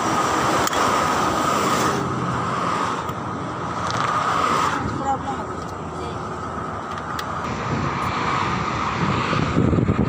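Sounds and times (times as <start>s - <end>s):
highway traffic passing: 0.0s - 10.0s.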